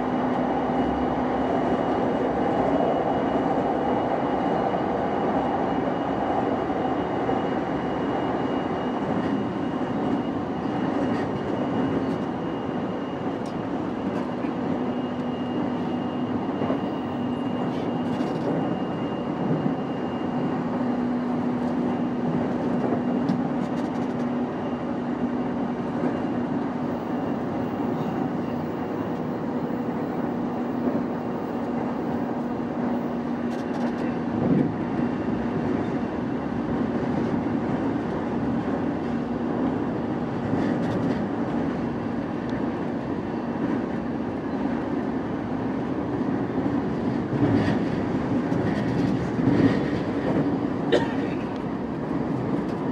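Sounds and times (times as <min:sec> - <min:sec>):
electric train rumbling: 0:00.0 - 0:52.9
steady train hum: 0:00.0 - 0:52.9.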